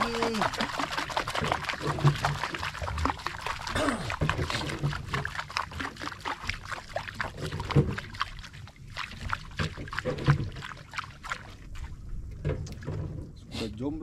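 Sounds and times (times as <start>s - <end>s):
water splashing against boat hull: 0.0s - 13.4s.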